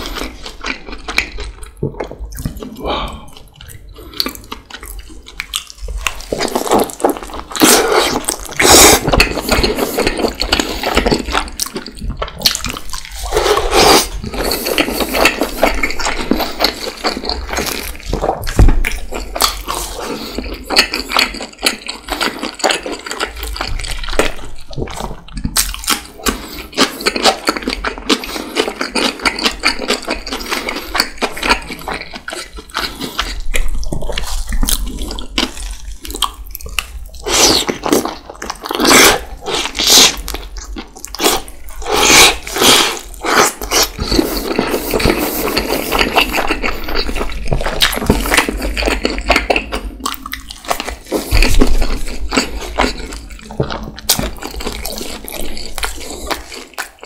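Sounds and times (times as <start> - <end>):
wet chewing and slurping: 0.0 - 57.0
mouth clicks and smacks: 0.6 - 57.0.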